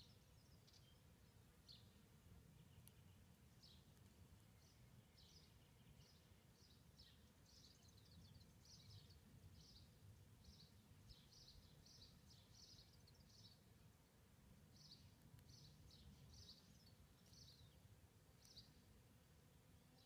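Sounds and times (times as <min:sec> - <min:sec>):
small bird chirping: 0:00.0 - 0:13.7, 0:14.7 - 0:18.9.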